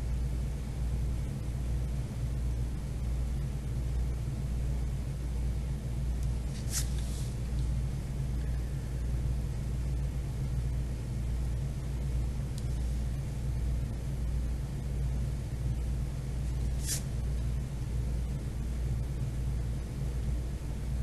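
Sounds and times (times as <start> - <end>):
low background rumble and hum: 0.0 - 21.0.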